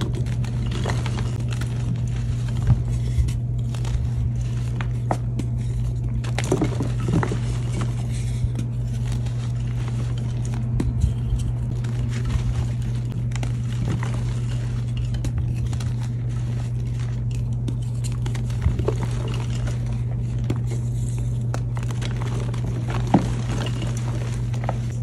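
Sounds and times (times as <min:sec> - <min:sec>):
chalk blocks crunching: 0:00.0 - 0:25.0
steady low hum: 0:00.0 - 0:25.0.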